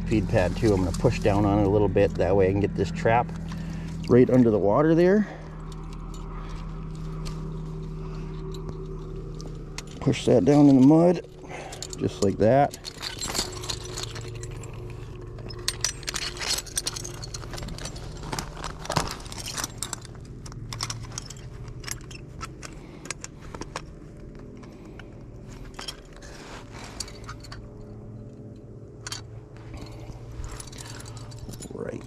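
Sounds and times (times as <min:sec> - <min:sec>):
trap chain clinking and rattling: 0:00.1 - 0:32.0.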